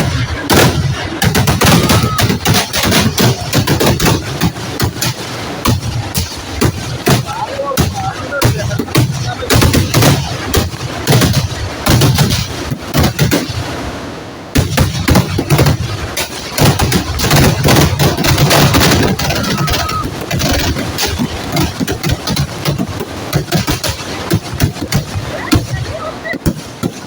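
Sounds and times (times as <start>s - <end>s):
firecracker bangs: 0.0s - 27.0s.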